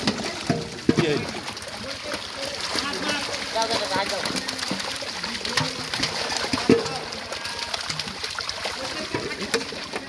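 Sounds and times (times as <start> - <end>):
pond water splashing: 0.0 - 10.0.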